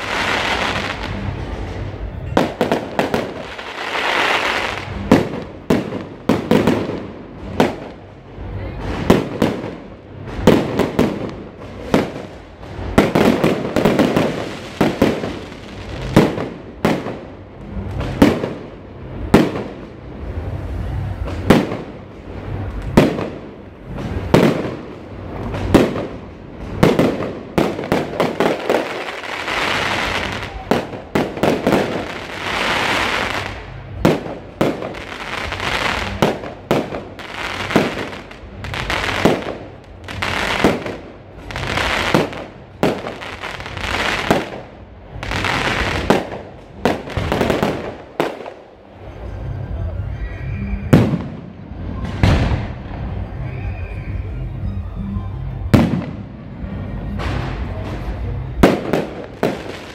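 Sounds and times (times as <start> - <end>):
fireworks bursting with sharp bangs: 0.0 - 49.7, 50.8 - 54.2, 55.7 - 59.9
fireworks crackling: 0.0 - 50.1, 55.7 - 59.9.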